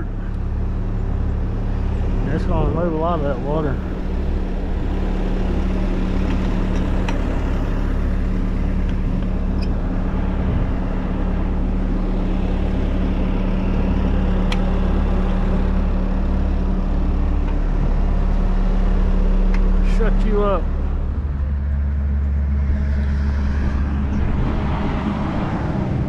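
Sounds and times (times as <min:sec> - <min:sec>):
diesel engine running steadily: 0:00.0 - 0:26.0.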